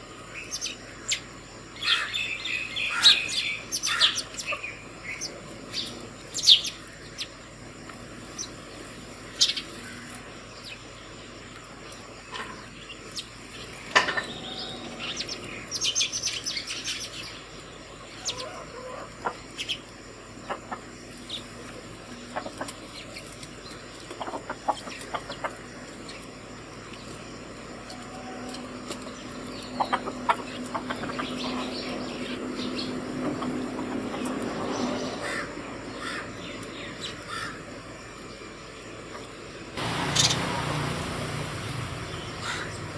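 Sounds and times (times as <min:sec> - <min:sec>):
sparrows chirping: 0:00.0 - 0:42.9.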